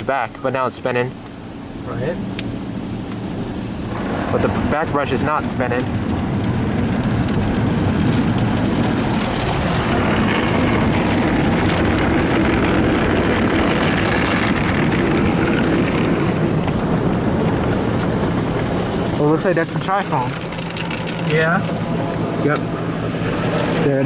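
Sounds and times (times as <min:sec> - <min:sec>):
car wash brushes and spray: 0:02.0 - 0:24.0.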